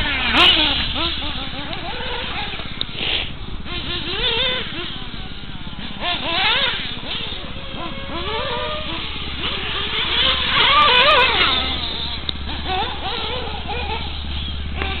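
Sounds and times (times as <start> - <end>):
radio-controlled car motors whining: 0.0 - 15.0.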